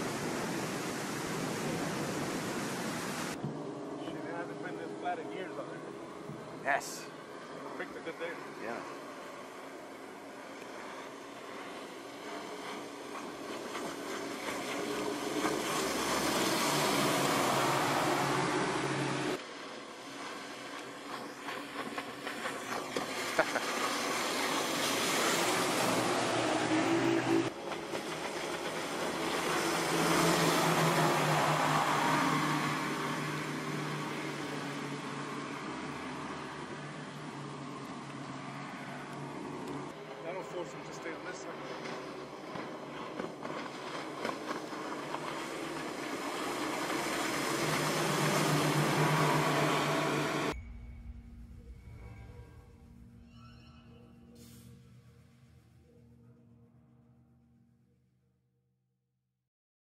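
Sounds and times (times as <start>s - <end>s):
water rushing and hull spray: 0.0s - 54.6s
outboard motors drone: 0.0s - 58.1s.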